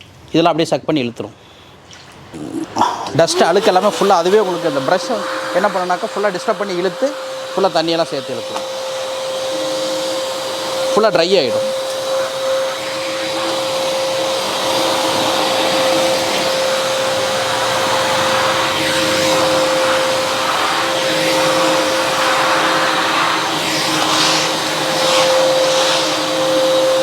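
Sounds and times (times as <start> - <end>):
vacuum cleaner motor whine: 3.1 - 27.0.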